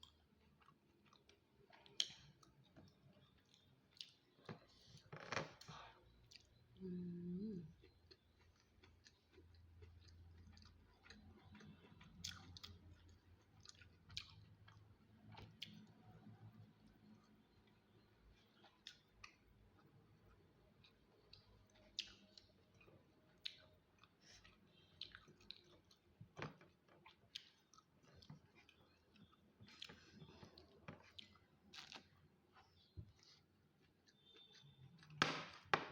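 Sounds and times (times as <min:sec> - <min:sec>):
chewing and mouth clicks: 0:00.0 - 0:04.9, 0:06.2 - 0:06.6, 0:07.7 - 0:35.2.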